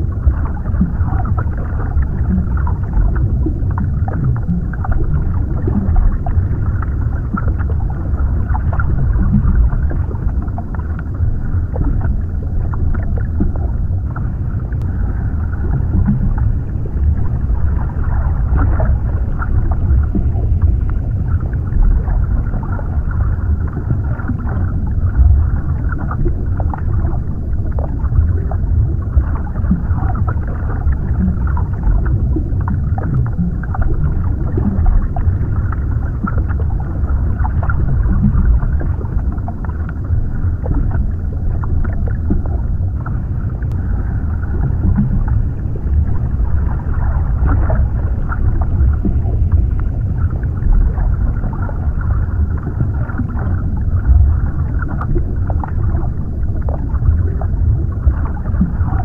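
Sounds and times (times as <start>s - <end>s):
deep muffled underwater rumble: 0.0s - 59.0s.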